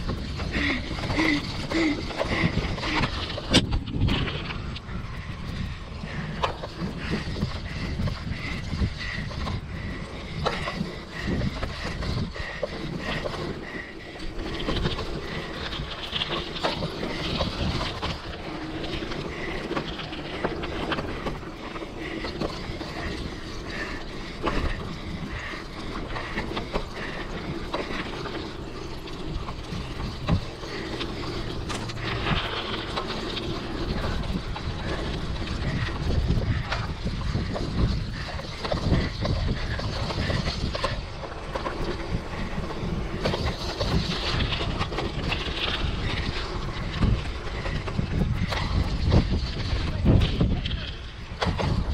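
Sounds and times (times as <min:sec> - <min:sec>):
bike rattles and knocks: 0:00.0 - 0:51.9
bike tyres rumbling on dirt: 0:00.0 - 0:51.9
wind on microphone: 0:00.0 - 0:51.9.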